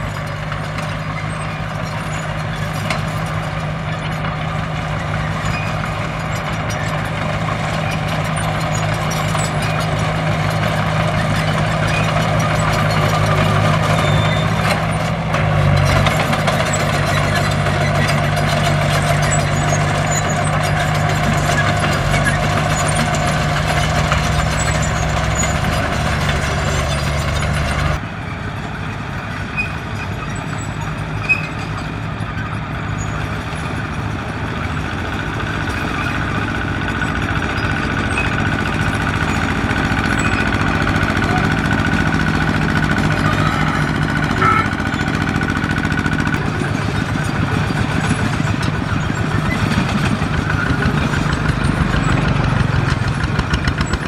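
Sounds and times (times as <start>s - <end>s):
heavy machine diesel engine running: 0.0s - 54.0s.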